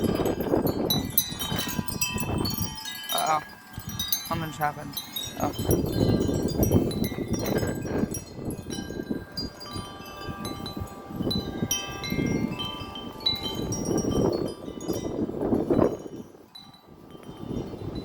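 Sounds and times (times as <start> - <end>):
wind chimes ringing: 0.0 - 18.0
wind gusting across microphone: 0.0 - 18.0.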